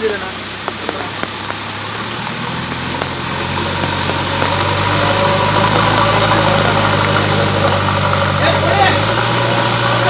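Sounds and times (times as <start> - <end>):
diesel engine running: 0.0 - 10.0
steady rain hiss: 0.0 - 10.0.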